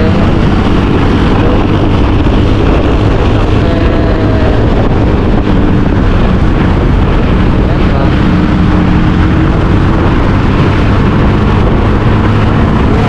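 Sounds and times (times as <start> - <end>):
motorbike running: 0.0 - 13.0
wind buffeting microphone: 0.0 - 13.0.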